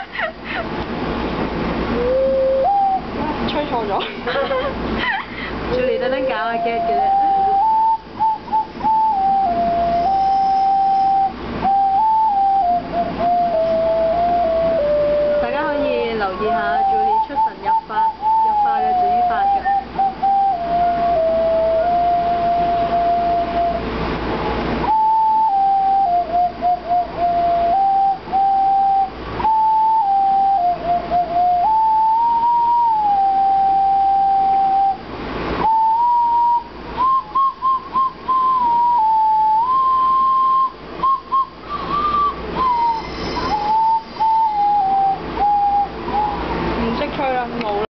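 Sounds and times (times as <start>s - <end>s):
ocarina playing slow tune: 1.8s - 3.4s, 5.7s - 46.8s.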